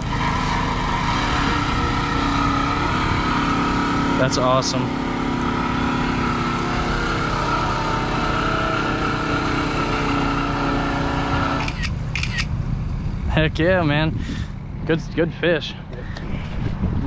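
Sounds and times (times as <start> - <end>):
engine idling: 0.0 - 16.8.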